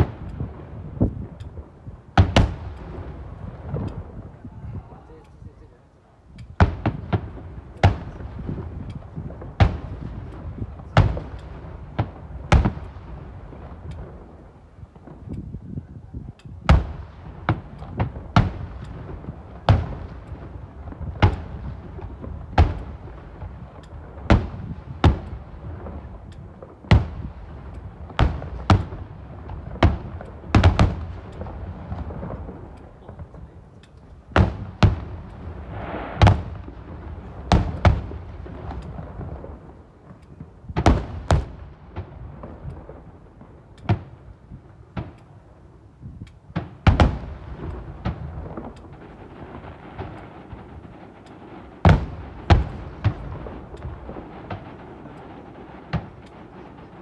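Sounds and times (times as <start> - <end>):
fireworks booming: 0.0 - 5.8, 6.5 - 57.0
continuous low rumble: 0.0 - 57.0.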